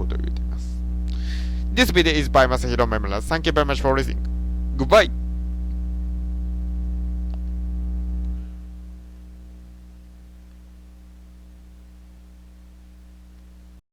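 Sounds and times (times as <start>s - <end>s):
electrical mains hum: 0.0s - 13.8s.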